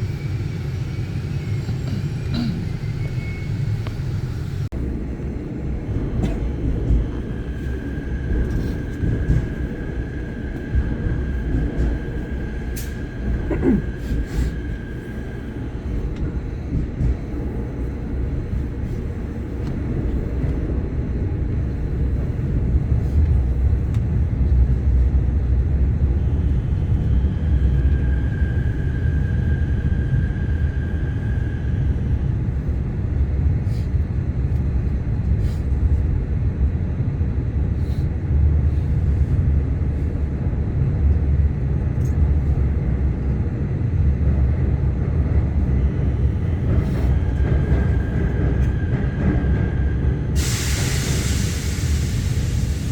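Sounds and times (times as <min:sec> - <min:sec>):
electric train rumbling: 0:00.0 - 0:52.9.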